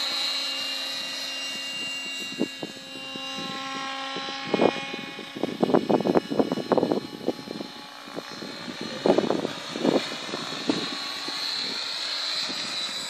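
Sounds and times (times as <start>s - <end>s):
model helicopter rotor whine: 0.0s - 13.0s.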